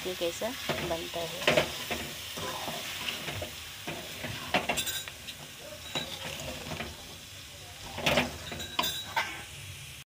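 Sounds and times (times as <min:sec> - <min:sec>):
faint sizzle: 0:00.0 - 0:10.0
wooden spatula scraping pan: 0:00.6 - 0:07.2, 0:07.8 - 0:09.4.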